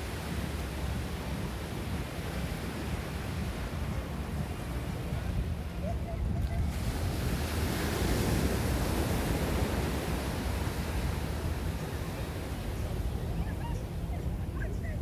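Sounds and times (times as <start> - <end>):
surf washing onto a beach: 0.0 - 15.0
wind on the microphone: 0.0 - 15.0.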